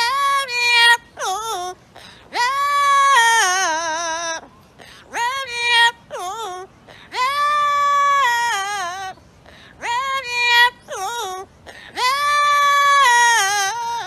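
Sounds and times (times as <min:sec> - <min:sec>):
parrot singing: 0:00.0 - 0:14.0.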